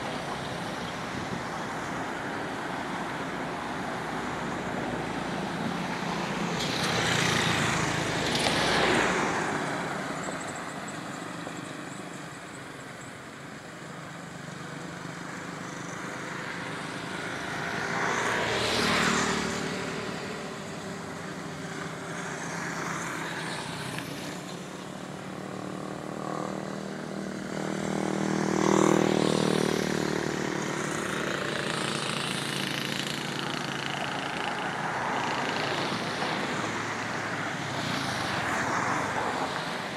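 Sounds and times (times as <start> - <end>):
vehicles passing by: 0.0 - 39.9.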